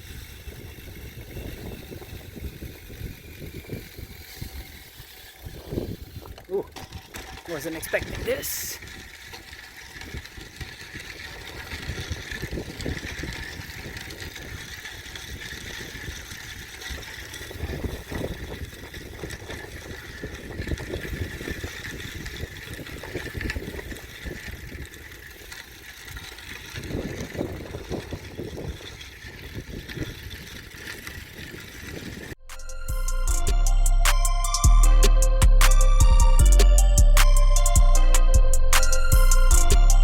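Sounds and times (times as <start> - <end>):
wind buffeting microphone: 0.0 - 32.4.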